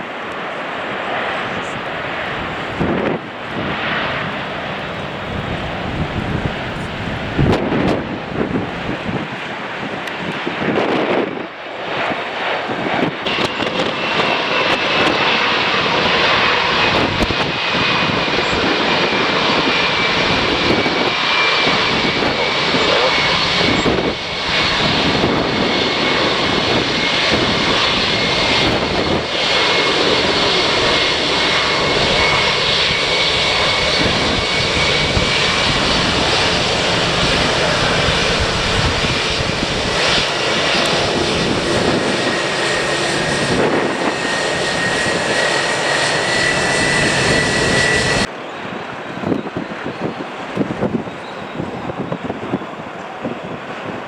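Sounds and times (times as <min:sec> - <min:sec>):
high engine whine: 0:00.0 - 0:09.1, 0:13.0 - 0:48.6
jet engines running loud: 0:00.0 - 0:54.0
wind buffeting microphone: 0:01.5 - 0:54.0.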